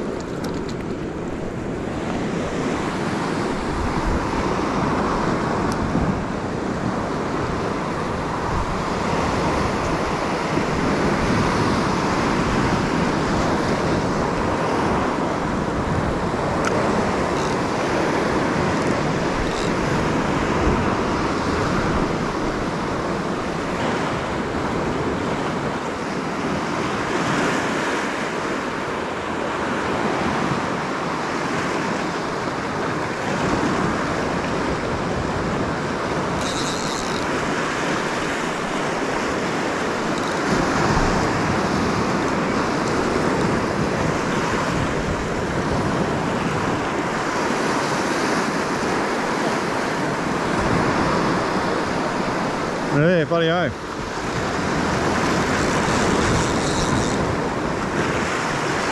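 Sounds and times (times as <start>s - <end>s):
waves breaking on rocky shore: 0.0s - 58.9s
wind on the microphone: 0.0s - 58.9s.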